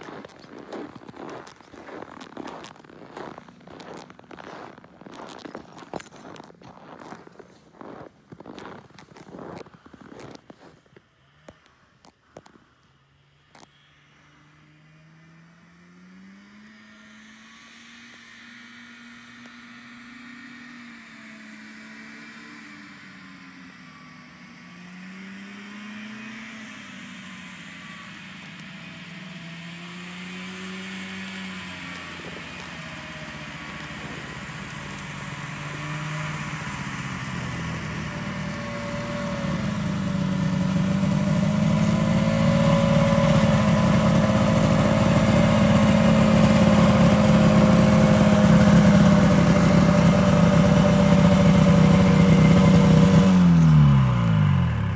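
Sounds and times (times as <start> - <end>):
snowmobile engine: 0.0 - 12.6, 13.6 - 54.9.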